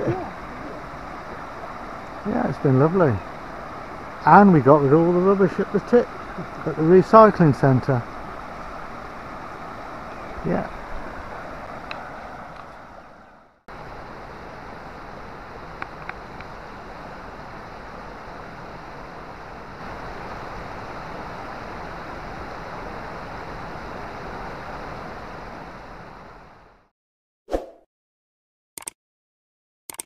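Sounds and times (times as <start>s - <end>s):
river water rushing: 0.0s - 26.7s.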